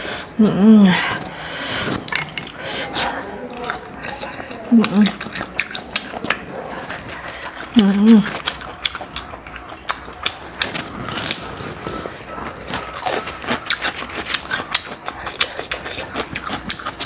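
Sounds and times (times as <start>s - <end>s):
chewing with wet clicks: 2.0s - 17.0s.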